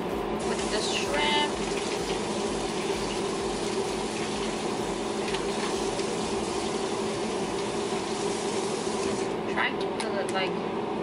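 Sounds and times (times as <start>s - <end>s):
broth boiling and bubbling: 0.0s - 9.4s.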